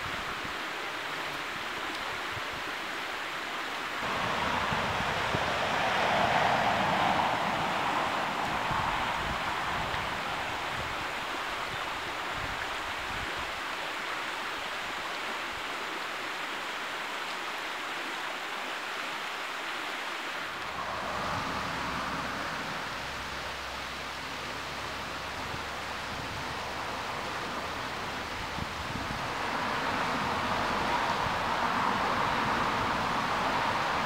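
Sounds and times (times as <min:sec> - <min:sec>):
river rushing over stones: 0:00.0 - 0:34.0.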